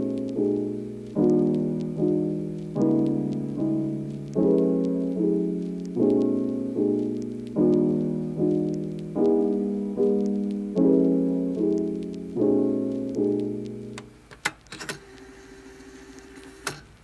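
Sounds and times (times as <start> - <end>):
soft piano chords: 0.0 - 14.3.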